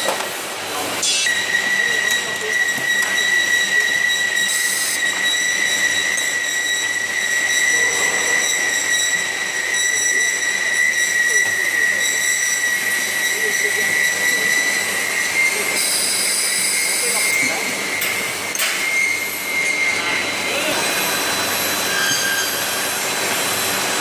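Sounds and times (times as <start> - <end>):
machine high-pitched whine: 0.0 - 24.0.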